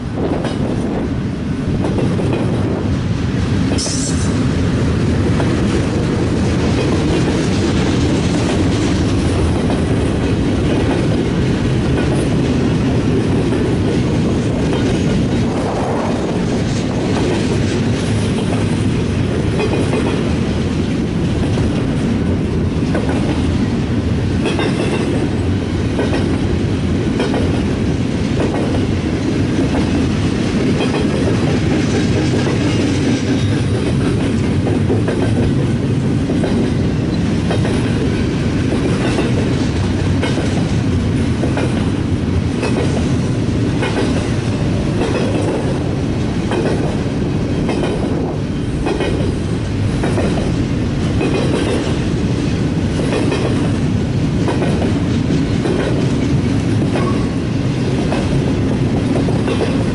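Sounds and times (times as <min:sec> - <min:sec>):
freight train wheels clacking: 0:00.0 - 0:59.9
train rumble: 0:00.0 - 0:59.9.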